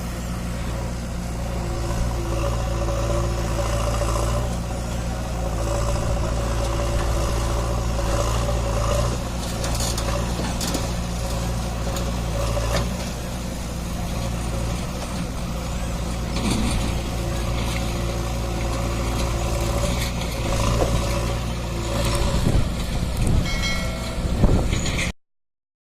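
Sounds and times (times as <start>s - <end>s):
tractor diesel engine running: 0.0s - 25.1s.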